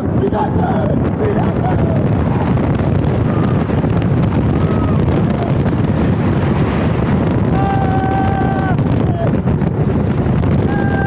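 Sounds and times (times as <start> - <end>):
roller coaster train rumbling: 0.0 - 11.0
wind rush on microphone: 0.0 - 11.0.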